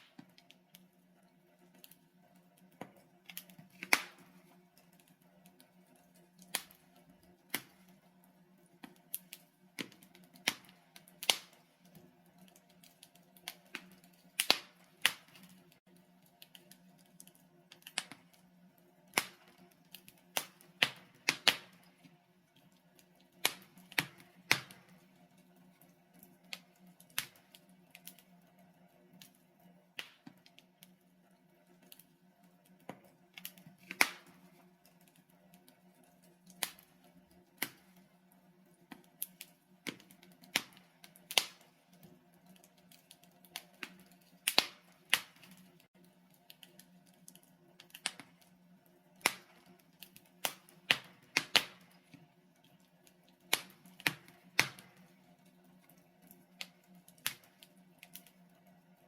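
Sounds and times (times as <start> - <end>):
logs crackling in a fireplace: 0.0 - 59.0.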